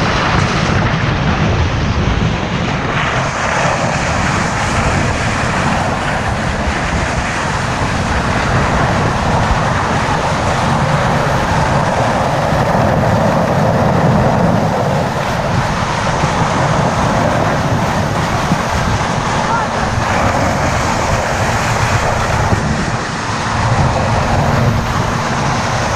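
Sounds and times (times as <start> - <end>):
vehicle engine and road rumble: 0.0 - 25.9.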